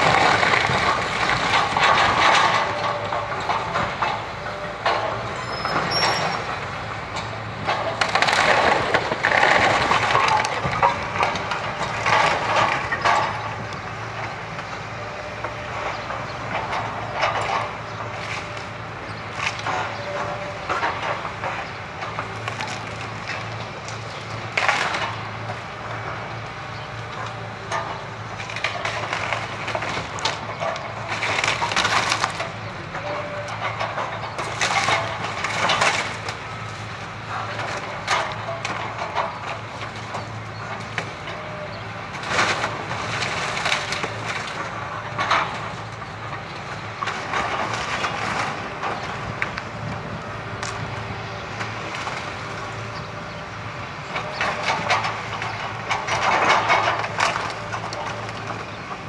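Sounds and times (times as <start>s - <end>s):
wood cracking and splintering: 0.0s - 5.4s, 6.1s - 26.3s, 27.0s - 59.0s
diesel engine running: 0.0s - 59.0s.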